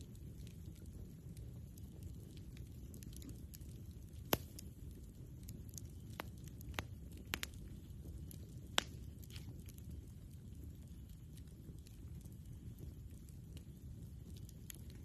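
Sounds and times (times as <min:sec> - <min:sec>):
campfire wood crackling: 0:00.0 - 0:15.0
low steady rumble: 0:00.0 - 0:15.0.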